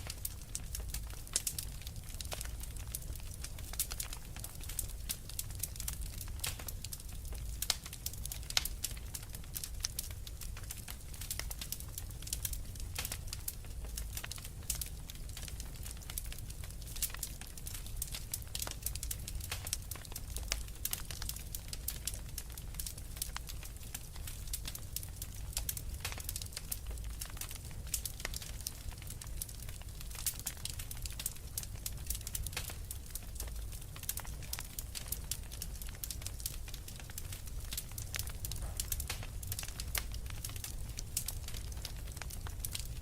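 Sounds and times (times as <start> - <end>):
log fire crackling: 0.0 - 43.0.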